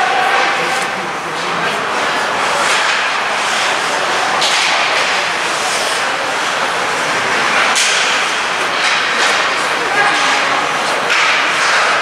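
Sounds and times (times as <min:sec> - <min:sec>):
ice rink game noise: 0:00.0 - 0:12.0
skate blades scraping ice: 0:01.6 - 0:12.0.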